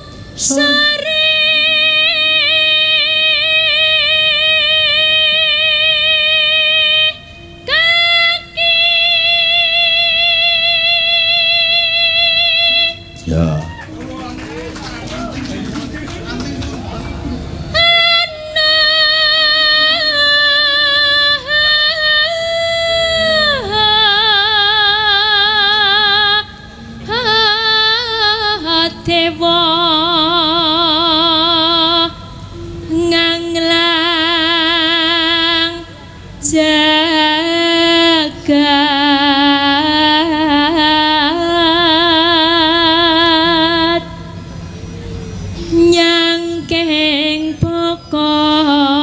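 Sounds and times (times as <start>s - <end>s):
woman singing with vibrato: 0.0s - 13.2s, 17.7s - 44.6s, 45.6s - 49.0s.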